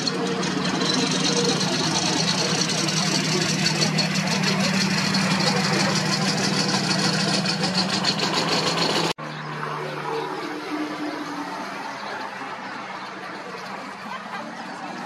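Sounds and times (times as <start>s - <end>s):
military vehicle engines running: 0.0s - 15.0s.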